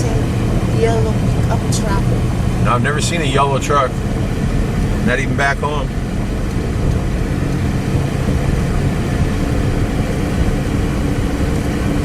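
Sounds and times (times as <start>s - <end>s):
car road noise rumble: 0.0s - 12.0s
faint engine hum: 0.0s - 12.0s.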